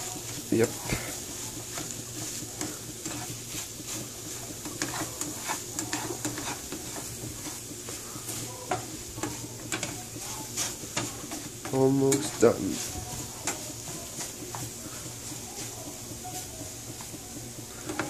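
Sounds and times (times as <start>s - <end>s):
food sizzling in pan: 0.0s - 18.0s
spatula scraping frying pan: 0.0s - 18.0s.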